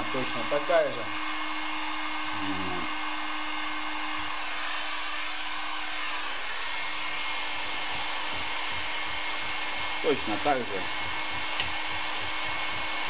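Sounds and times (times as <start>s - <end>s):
heat gun blowing hot air: 0.0s - 13.0s.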